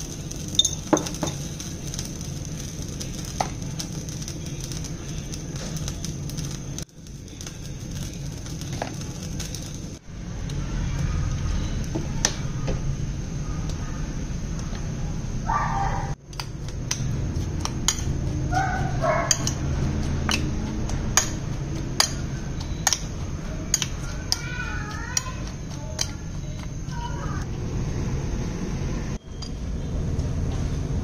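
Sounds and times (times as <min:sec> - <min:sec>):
low background hum: 0:00.0 - 0:31.0.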